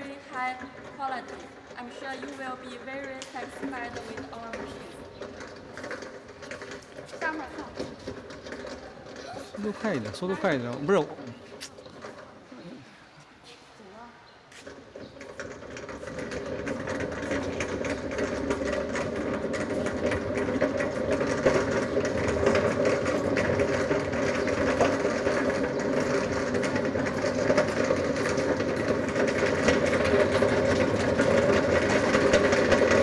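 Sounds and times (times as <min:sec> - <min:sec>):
industrial machinery rattling and humming: 0:00.0 - 0:12.3, 0:14.6 - 0:33.0.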